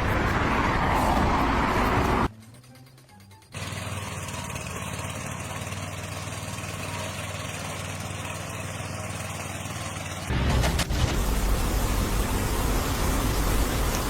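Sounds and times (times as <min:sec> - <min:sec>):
engine idling: 0:02.3 - 0:14.0.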